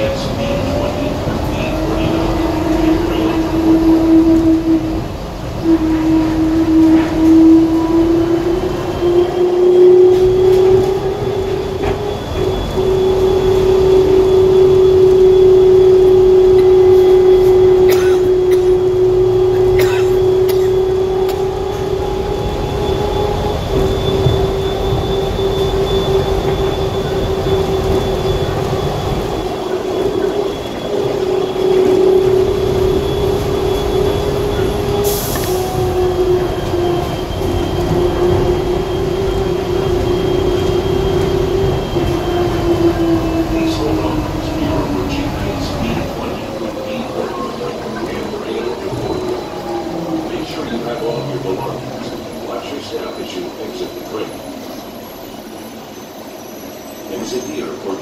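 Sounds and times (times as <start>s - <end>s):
train rumbling running noise: 0.0s - 58.0s
train whine: 0.0s - 58.0s.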